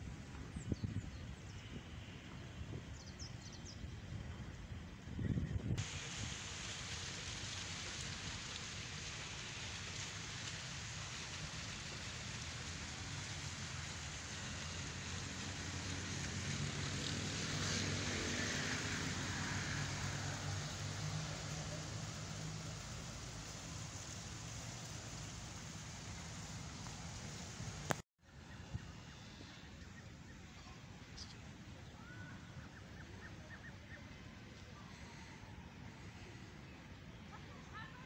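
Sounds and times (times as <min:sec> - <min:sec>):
fountain jets splashing: 0:01.2 - 0:28.8, 0:29.7 - 0:38.0.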